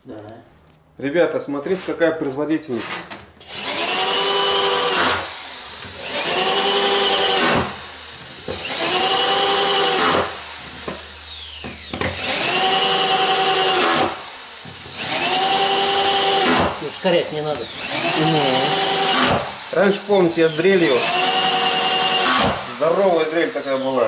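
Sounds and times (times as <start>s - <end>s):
drill driving screws into wood: 2.9s - 24.0s.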